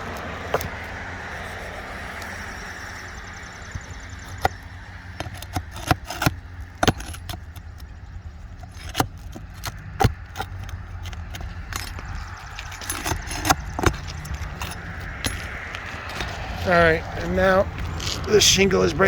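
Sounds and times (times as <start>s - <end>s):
steady low rumble: 0.0s - 19.0s
tool clicking and scraping under shingles: 0.0s - 19.0s.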